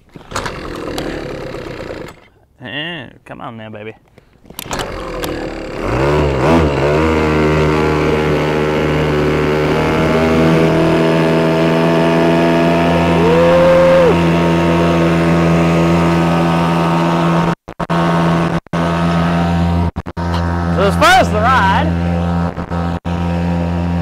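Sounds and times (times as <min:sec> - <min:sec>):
outboard motor running: 0:00.0 - 0:02.4, 0:04.5 - 0:24.0.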